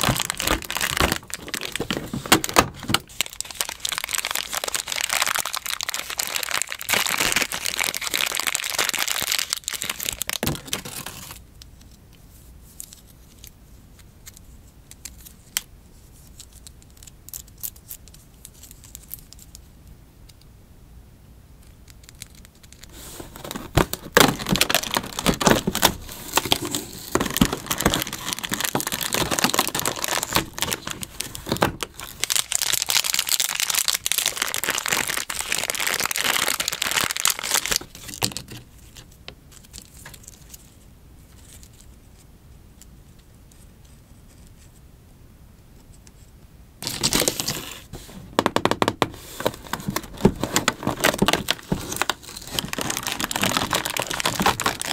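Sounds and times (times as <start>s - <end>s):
plastic wrapper crinkling and tearing: 0.0s - 11.4s, 14.2s - 19.6s, 21.9s - 42.0s, 46.8s - 54.9s.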